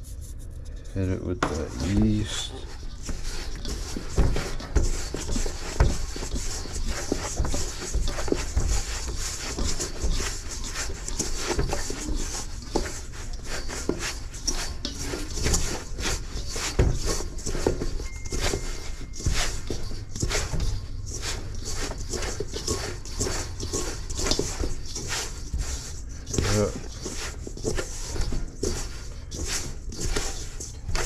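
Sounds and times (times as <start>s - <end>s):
dough wet slaps and squishes: 1.5s - 31.0s.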